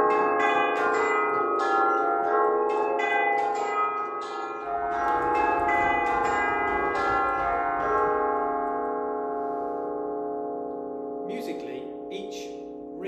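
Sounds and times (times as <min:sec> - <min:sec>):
tubular bells ringing: 0:00.0 - 0:13.0.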